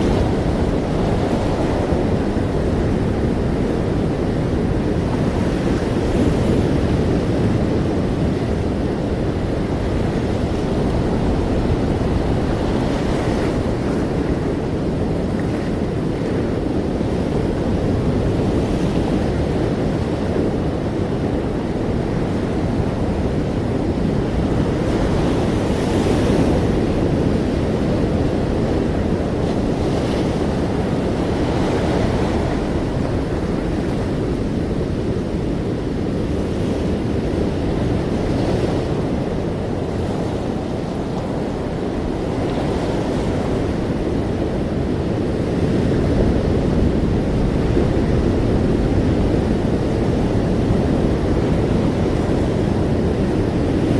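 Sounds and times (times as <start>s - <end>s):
ocean waves washing in: 0.0s - 53.9s
wind rumble on microphone: 0.0s - 53.9s.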